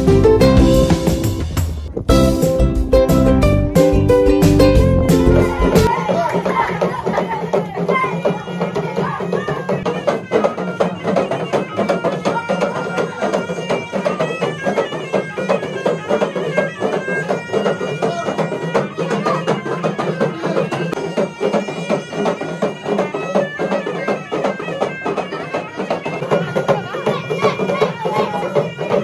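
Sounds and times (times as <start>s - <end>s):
hand drum beats: 0.0s - 29.0s.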